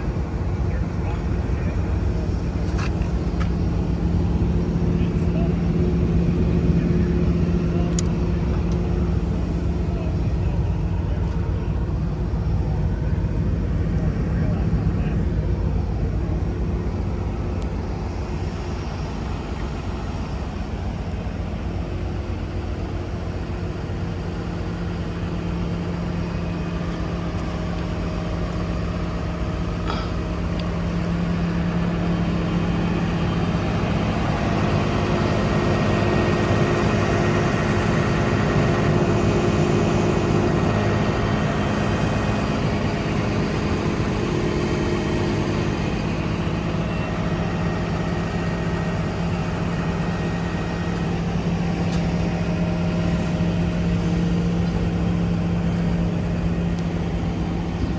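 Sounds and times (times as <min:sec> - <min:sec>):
excavator diesel engine humming: 0:00.0 - 0:57.9.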